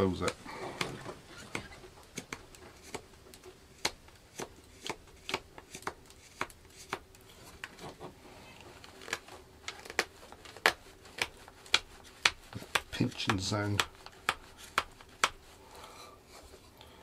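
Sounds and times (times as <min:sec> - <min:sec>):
knife carving wood: 0:00.0 - 0:07.9, 0:08.8 - 0:16.6.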